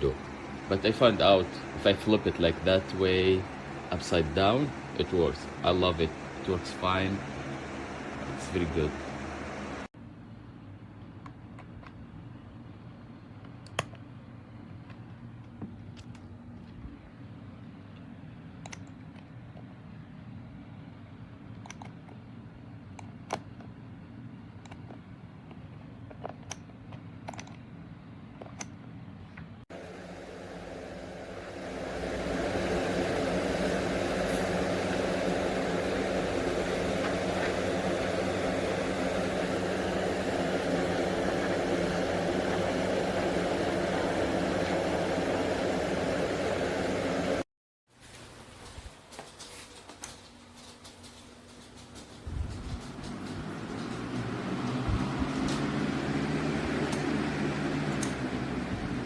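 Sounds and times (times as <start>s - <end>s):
box fan humming: 0.0s - 18.8s, 29.7s - 59.0s.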